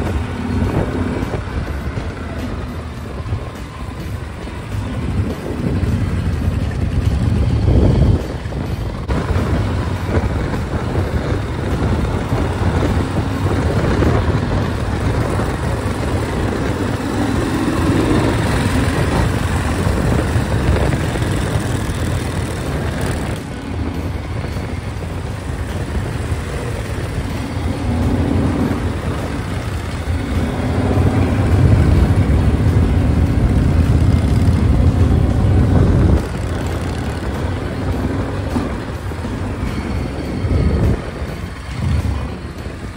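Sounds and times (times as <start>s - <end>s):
motorcycle exhausts: 0.0s - 42.9s
wind and road noise: 0.0s - 42.9s.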